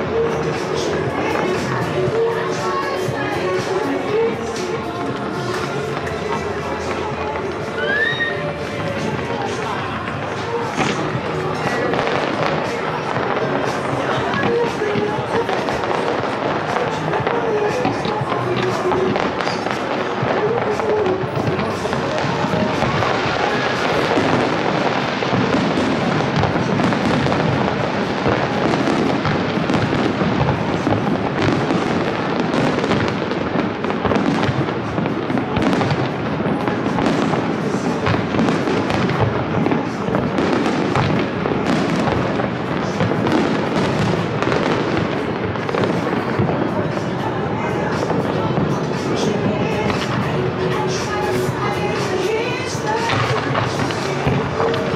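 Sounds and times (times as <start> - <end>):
fireworks crackling and banging: 0.0 - 54.9.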